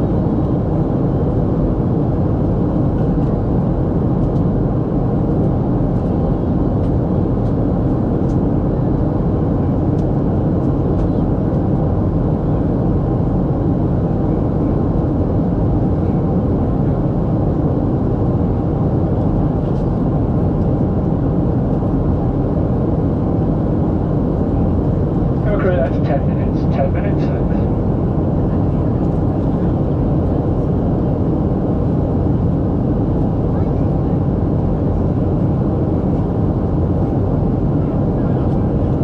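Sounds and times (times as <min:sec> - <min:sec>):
airliner cabin engine noise: 0:00.0 - 0:39.0.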